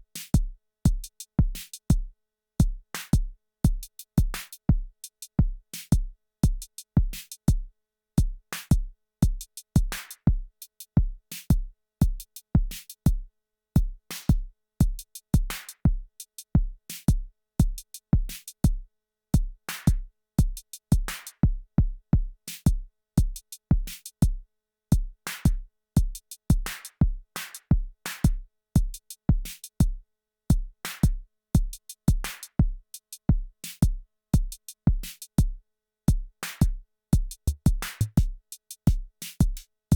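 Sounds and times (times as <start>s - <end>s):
kick drum: 0.4s - 13.2s, 13.8s - 18.8s, 19.4s - 39.6s.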